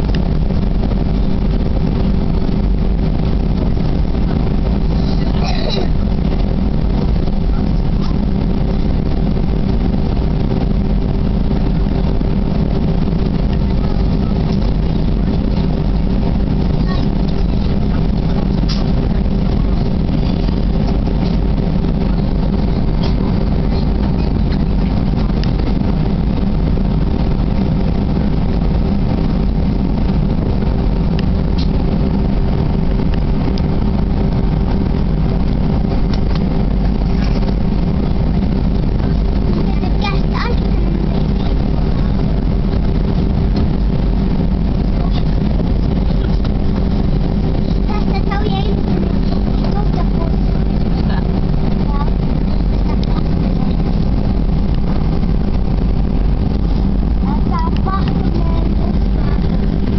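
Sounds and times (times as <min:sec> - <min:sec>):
aircraft cabin rumble: 0:00.0 - 0:59.9
steady hum: 0:00.0 - 0:59.9.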